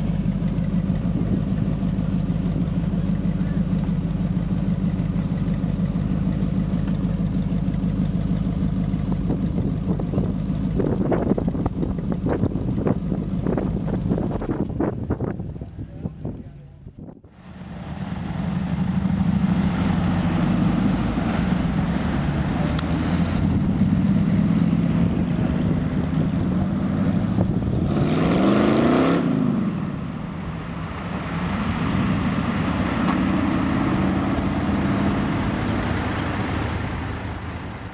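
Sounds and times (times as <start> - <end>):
car engine running loudly: 0.0 - 37.9.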